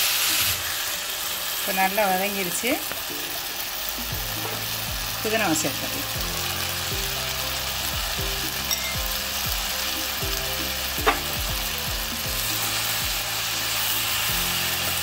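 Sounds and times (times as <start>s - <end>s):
food sizzling in oil: 0.0s - 15.0s
soft background music: 0.1s - 15.0s.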